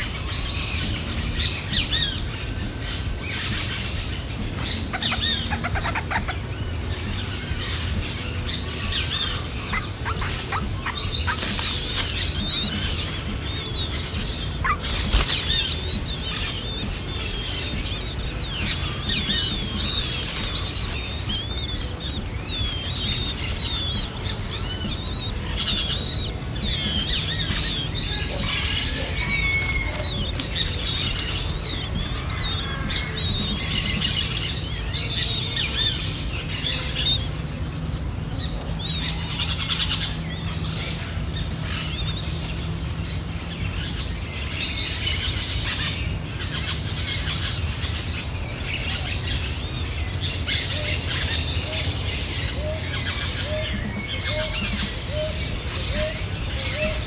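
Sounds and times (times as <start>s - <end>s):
nestlings begging with high chirps: 0.0s - 57.0s.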